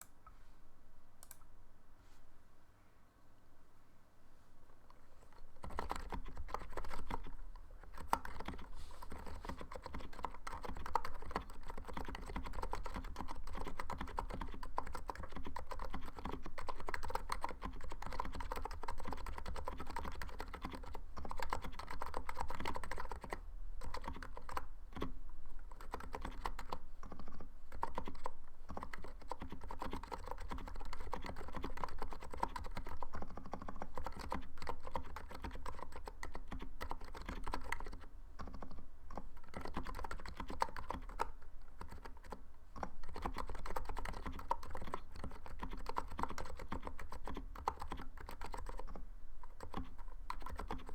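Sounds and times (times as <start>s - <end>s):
fast typing on keyboard: 5.3s - 50.9s.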